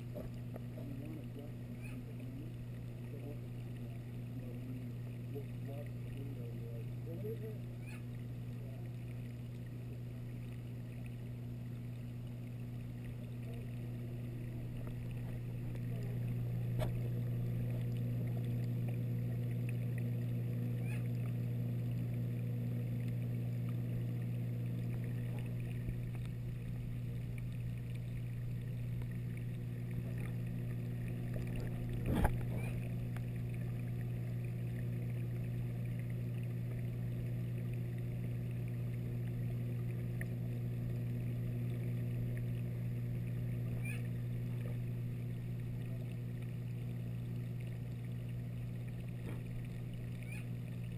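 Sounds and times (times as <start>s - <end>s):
aquarium pumps humming: 0.0s - 50.9s.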